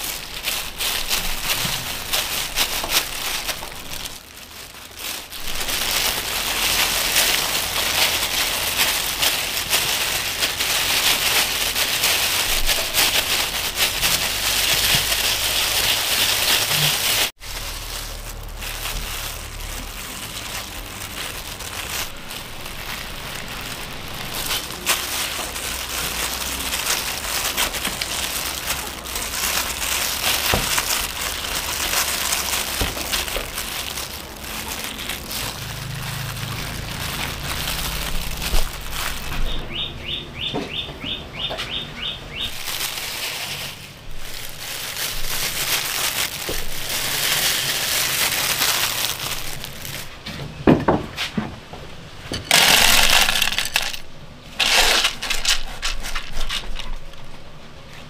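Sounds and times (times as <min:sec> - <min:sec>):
rice grains rustling: 0:00.0 - 0:39.9, 0:42.3 - 0:50.3, 0:52.4 - 0:57.2
plastic gloves crinkling: 0:00.0 - 0:40.8, 0:41.4 - 0:51.0, 0:51.9 - 0:58.0.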